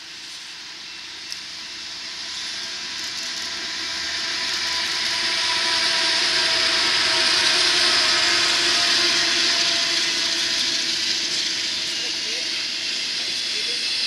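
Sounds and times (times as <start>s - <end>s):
freight train passing: 0.0s - 14.0s
train cars rolling over rails: 1.3s - 14.0s.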